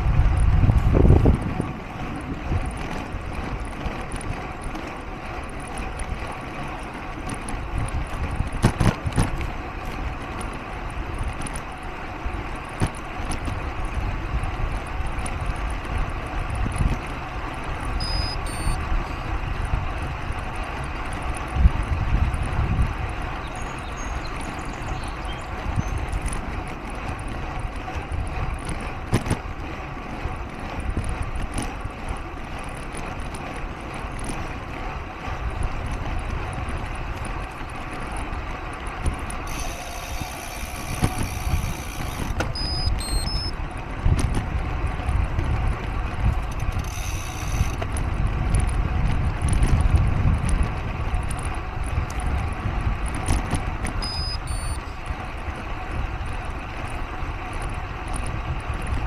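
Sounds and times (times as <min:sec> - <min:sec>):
vehicle engine running: 0:00.0 - 0:59.0
wind rumble on microphone: 0:00.0 - 0:59.0.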